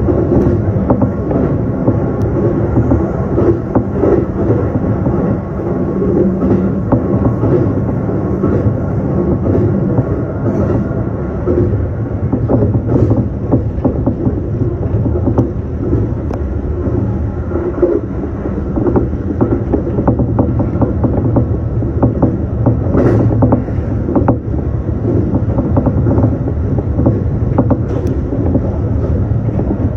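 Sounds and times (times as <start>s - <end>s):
track clicks and knocks: 0.0s - 29.9s
train wheels rumbling on rail: 0.0s - 29.9s.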